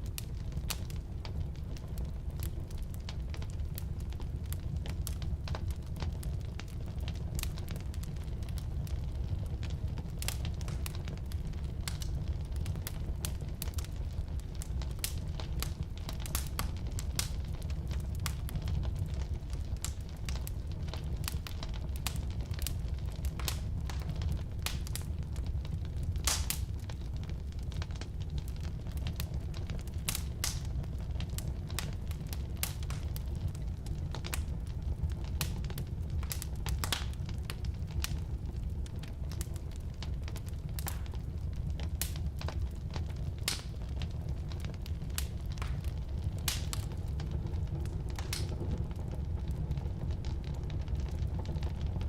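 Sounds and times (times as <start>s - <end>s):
firewood crackling and popping: 0.0s - 52.0s
low rumble of flames: 0.0s - 52.0s.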